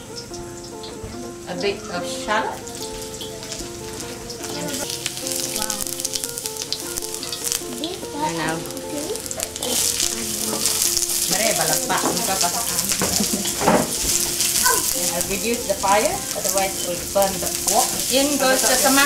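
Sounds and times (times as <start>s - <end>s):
garlic sizzling in hot oil: 0.0s - 19.0s
spatula scraping wok: 2.5s - 19.0s.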